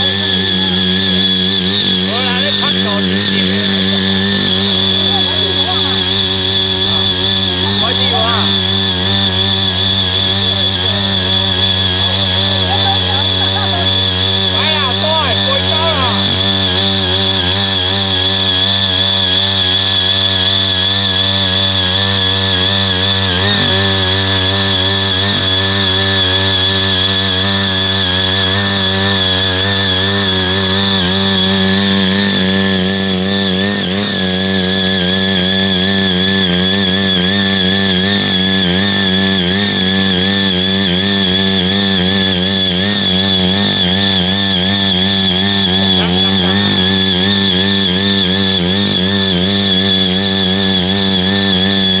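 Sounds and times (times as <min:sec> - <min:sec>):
power tiller engine running: 0:00.0 - 0:52.0
tilling blades working soil: 0:00.0 - 0:52.0.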